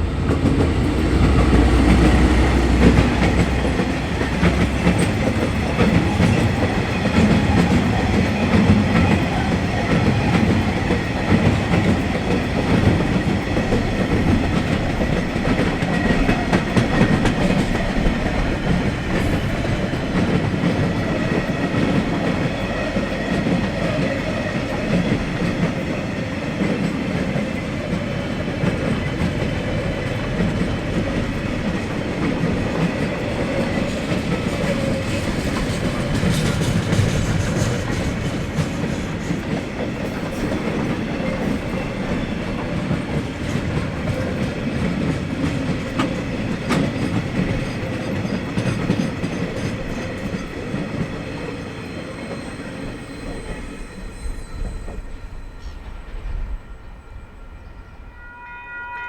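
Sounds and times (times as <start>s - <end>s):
train wagons rumbling past: 0.0s - 58.9s.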